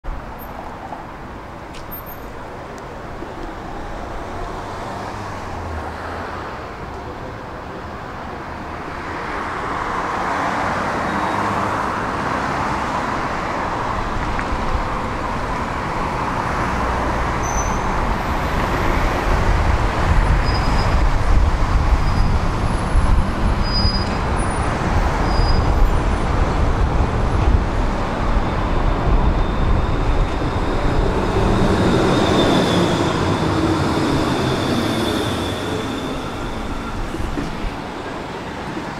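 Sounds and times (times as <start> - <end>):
road traffic passing: 0.0 - 38.9
tram rumbling: 0.0 - 38.9.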